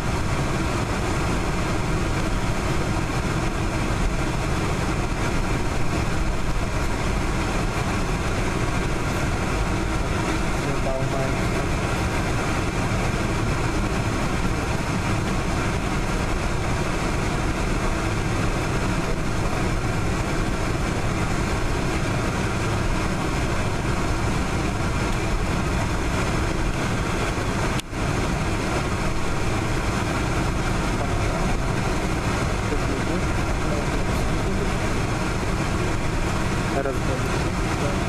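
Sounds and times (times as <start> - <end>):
jet engines rumbling in cabin: 0.0 - 38.0.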